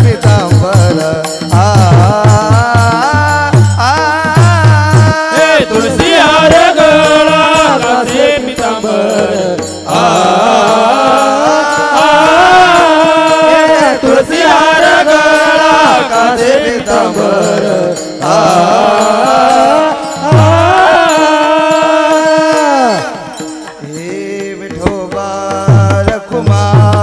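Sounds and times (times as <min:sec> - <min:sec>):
devotional chant singing: 0:00.0 - 0:27.0
instrumental accompaniment: 0:00.0 - 0:27.0.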